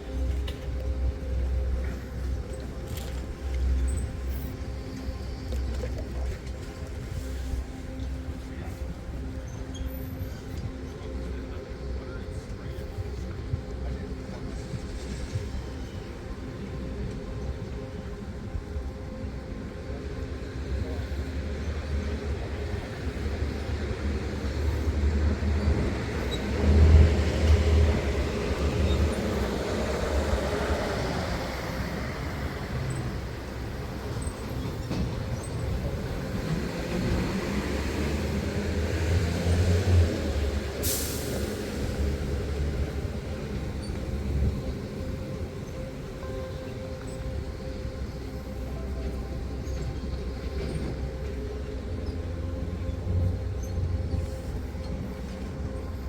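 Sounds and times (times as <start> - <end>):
rumble of passing vehicles: 0.0 - 56.0.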